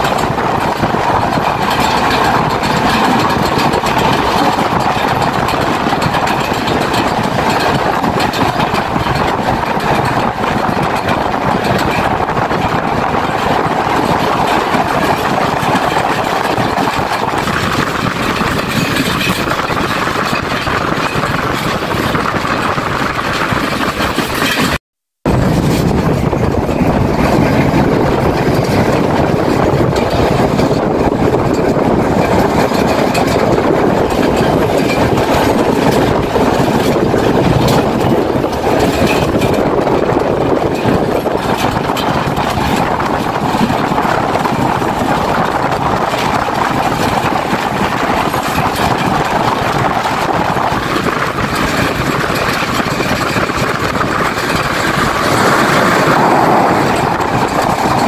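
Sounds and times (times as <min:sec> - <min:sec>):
rushing air: 0:00.0 - 0:58.0
train wheels on rails: 0:00.0 - 0:58.0.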